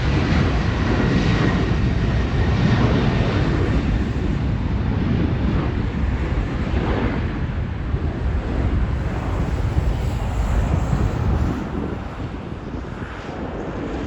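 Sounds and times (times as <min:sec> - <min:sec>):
jet engines rumbling: 0:00.0 - 0:14.0
wind buffeting microphone: 0:00.0 - 0:14.0.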